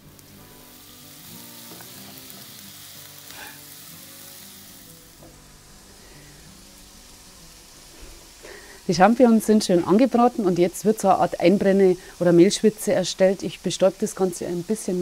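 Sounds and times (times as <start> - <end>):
mushrooms sizzling in a pan: 0.0 - 15.0.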